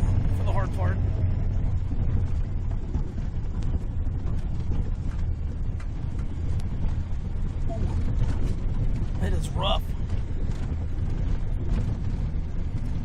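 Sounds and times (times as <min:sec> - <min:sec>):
trailer rattles and knocks: 0:00.0 - 0:13.0
truck engine rumbling under load: 0:00.0 - 0:13.0.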